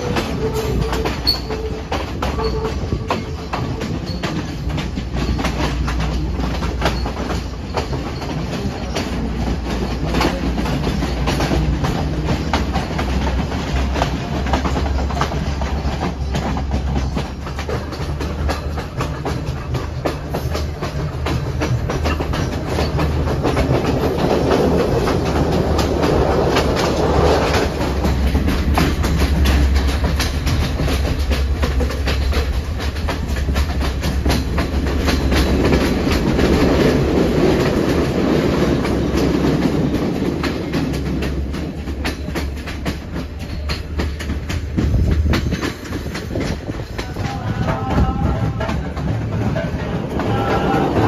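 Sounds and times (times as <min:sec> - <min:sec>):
train rumbling: 0:00.0 - 0:51.0
wheels clicking over rail joints: 0:00.0 - 0:51.0.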